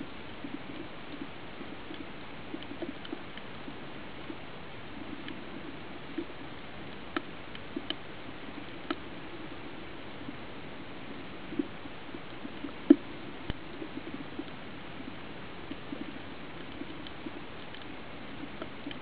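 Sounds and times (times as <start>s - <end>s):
faint underwater hiss: 0.0s - 19.0s.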